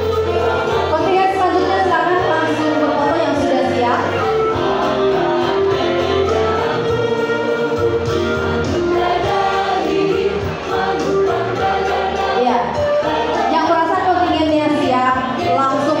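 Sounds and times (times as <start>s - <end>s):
children's choir singing: 0.0s - 16.0s
electronic keyboards: 0.0s - 16.0s.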